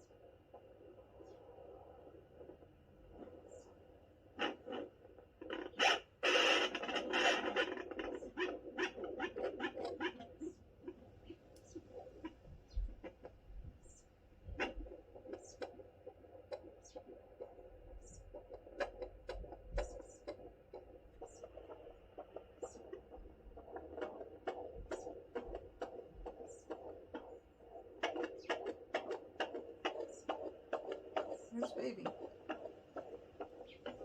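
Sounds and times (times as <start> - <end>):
quick steady heartbeat pulsing: 4.4 - 34.0.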